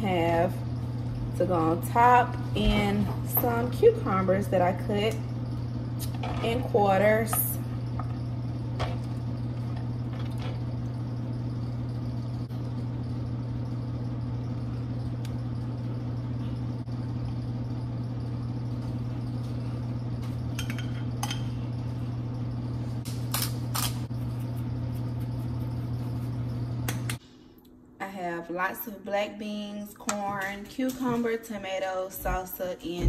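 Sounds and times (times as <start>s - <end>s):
low appliance hum: 0.0s - 33.0s.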